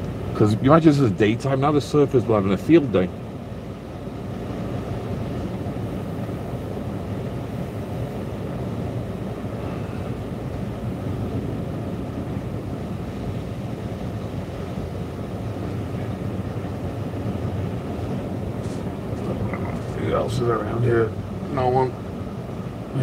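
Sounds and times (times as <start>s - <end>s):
waves breaking on shore: 0.0s - 23.0s
wind: 0.0s - 23.0s.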